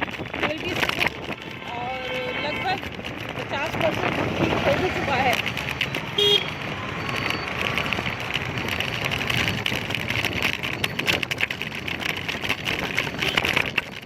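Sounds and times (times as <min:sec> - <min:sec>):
road and traffic noise: 0:00.0 - 0:14.0
wind buffeting microphone: 0:00.0 - 0:14.0.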